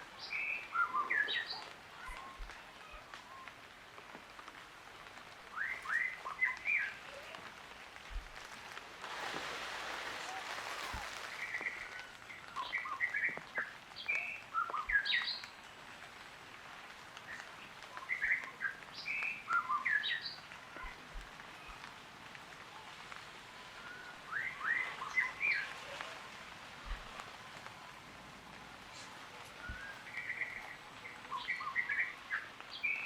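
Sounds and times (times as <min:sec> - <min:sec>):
soft hiss-like noise: 0:00.0 - 0:33.0.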